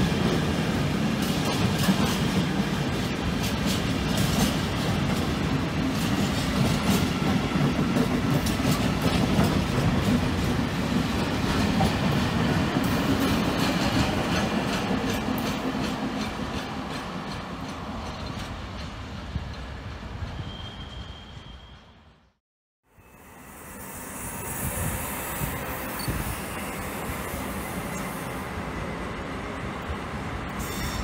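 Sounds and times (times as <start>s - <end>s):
freight train rumbling past: 0.0s - 22.1s, 23.0s - 31.0s.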